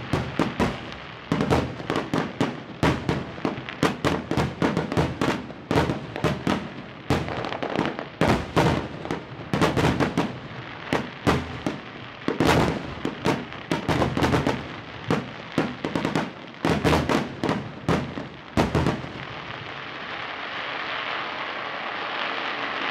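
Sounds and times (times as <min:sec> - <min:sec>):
fireworks bangs: 0:00.0 - 0:22.9.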